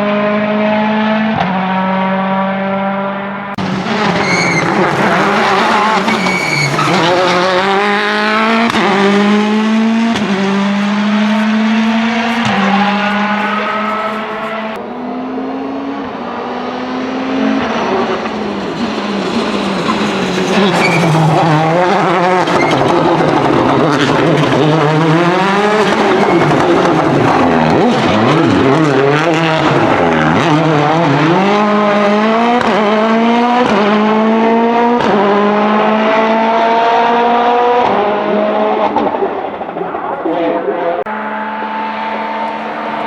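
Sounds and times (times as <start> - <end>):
rally car engine revving: 0.0 - 43.0.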